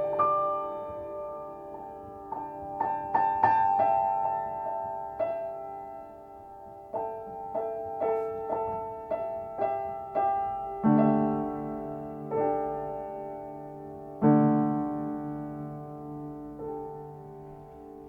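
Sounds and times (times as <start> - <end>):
solo piano melody: 0.0 - 18.0.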